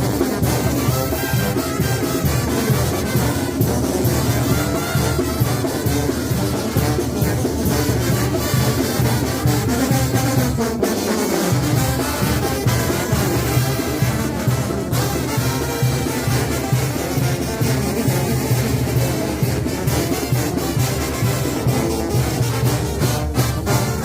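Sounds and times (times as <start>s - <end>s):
drums: 0.0s - 24.0s
trombones: 0.0s - 24.0s
trumpets: 0.0s - 24.0s
tubas playing bass line: 0.0s - 24.0s.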